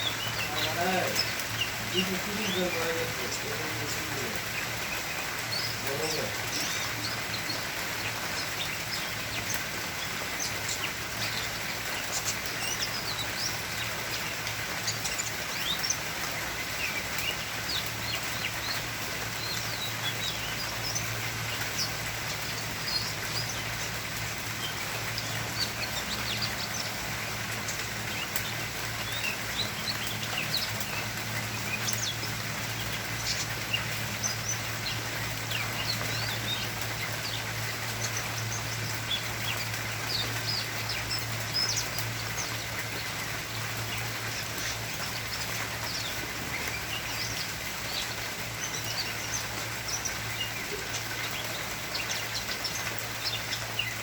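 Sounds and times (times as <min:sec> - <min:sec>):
birds chirping: 0:00.0 - 0:54.0
steady hiss: 0:00.0 - 0:54.0.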